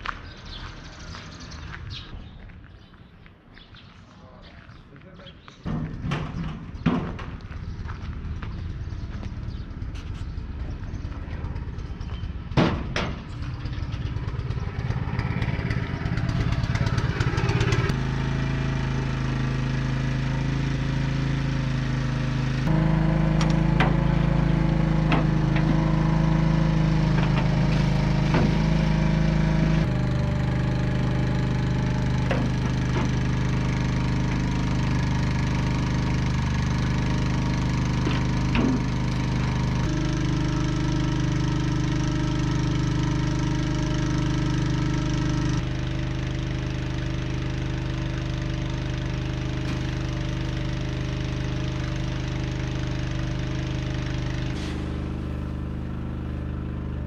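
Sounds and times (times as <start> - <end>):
small engine running: 5.8 - 57.0.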